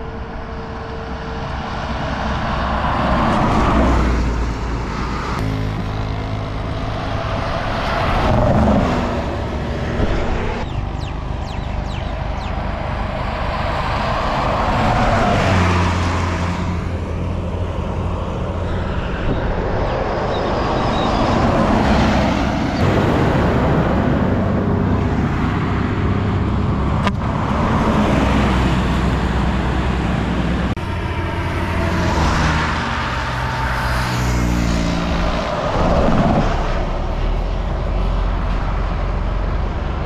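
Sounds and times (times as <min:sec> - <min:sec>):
heavy vehicles passing: 0:00.0 - 0:40.0
tyre and road noise: 0:00.0 - 0:40.0.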